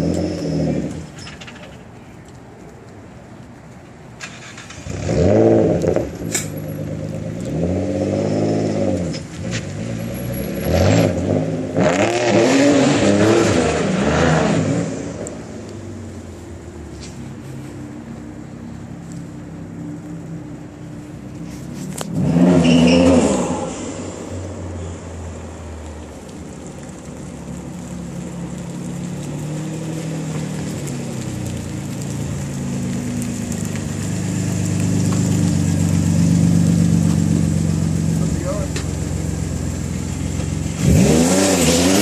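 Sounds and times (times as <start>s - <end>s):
car engine revving and idling: 0.0s - 1.1s, 4.2s - 42.0s.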